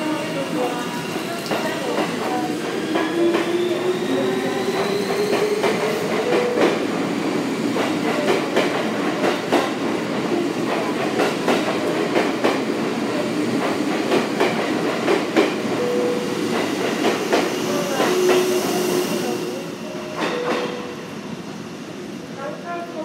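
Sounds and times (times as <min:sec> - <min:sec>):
train rolling noise: 0:00.0 - 0:23.0.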